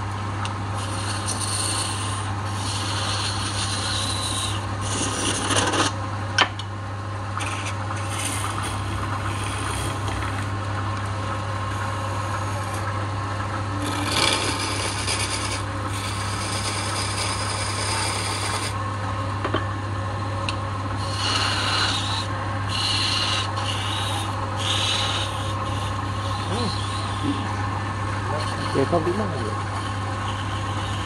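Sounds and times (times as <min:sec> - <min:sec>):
wood lathe humming: 0:00.7 - 0:06.0, 0:07.2 - 0:18.8, 0:19.4 - 0:31.0
chisel scraping spinning wood: 0:00.8 - 0:06.0, 0:07.3 - 0:12.9, 0:13.5 - 0:18.8, 0:20.9 - 0:31.0.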